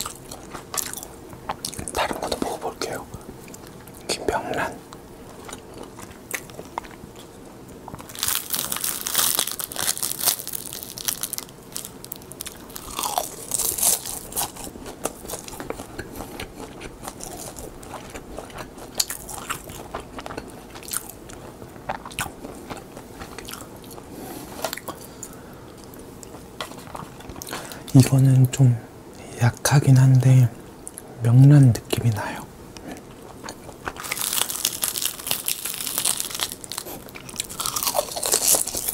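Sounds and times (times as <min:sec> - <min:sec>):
crunching seaweed sheets being chewed: 0:00.0 - 0:02.4, 0:05.3 - 0:28.1, 0:32.9 - 0:38.9.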